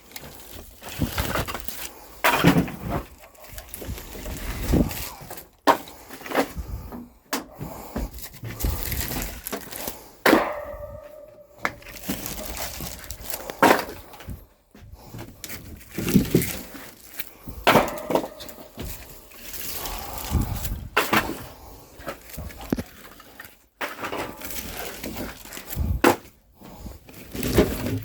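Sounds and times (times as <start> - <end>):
firewood logs knocking together: 0.2 - 14.4, 15.0 - 26.4.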